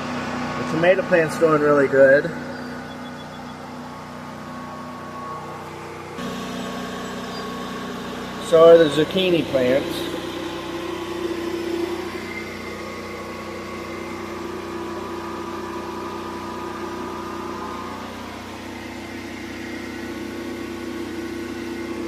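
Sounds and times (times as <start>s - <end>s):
generator engine humming: 0.0s - 22.0s.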